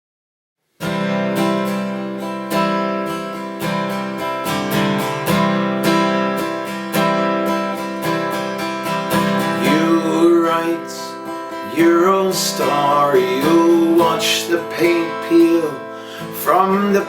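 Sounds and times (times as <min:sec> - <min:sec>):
acoustic guitar strumming: 0:00.8 - 0:17.0.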